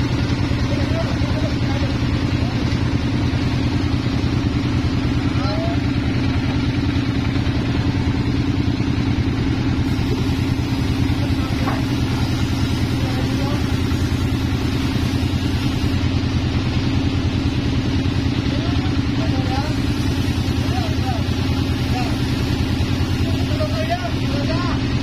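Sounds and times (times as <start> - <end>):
stationary engine throbbing: 0.0 - 25.0.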